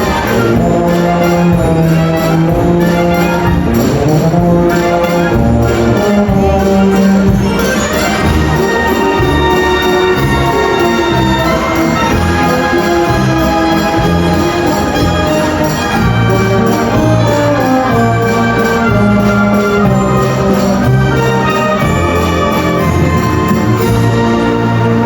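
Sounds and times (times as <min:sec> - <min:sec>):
music with held notes and bass: 0:00.0 - 0:25.0.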